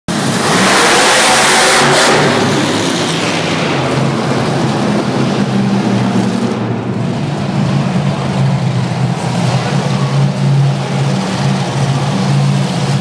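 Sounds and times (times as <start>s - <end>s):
monster truck engine: 0.1s - 13.0s.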